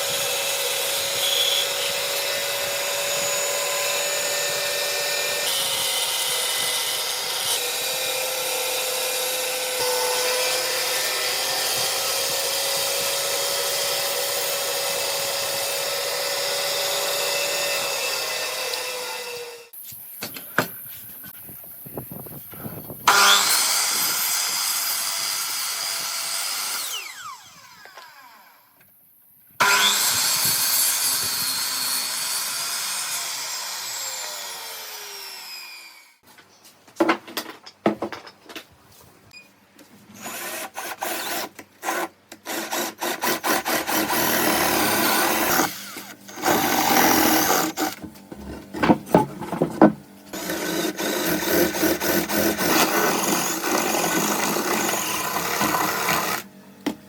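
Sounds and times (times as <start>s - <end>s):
power tool on wood: 0.0s - 19.8s, 23.1s - 28.8s, 29.6s - 36.2s, 40.2s - 48.5s, 50.3s - 57.0s.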